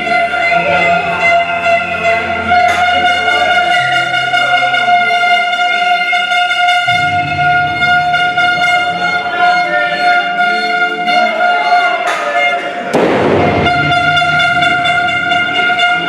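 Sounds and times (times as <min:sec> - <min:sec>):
music with long held notes: 0:00.0 - 0:16.0.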